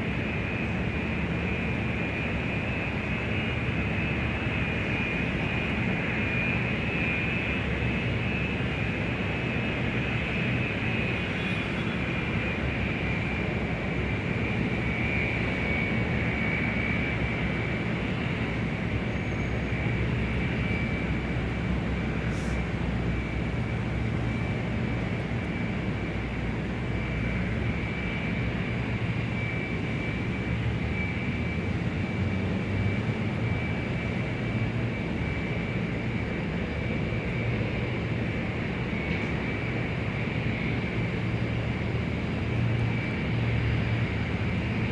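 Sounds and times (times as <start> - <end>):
aircraft engine high whine: 0.0 - 44.9
low aircraft rumble: 0.0 - 44.9.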